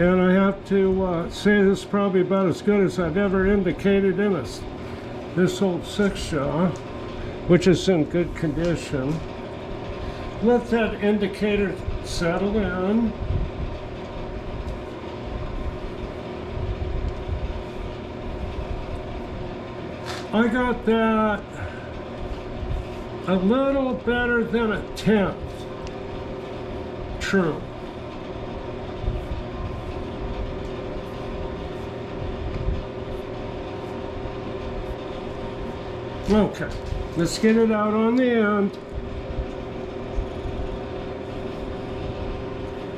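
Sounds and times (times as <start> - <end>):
lathe running: 0.0 - 42.9.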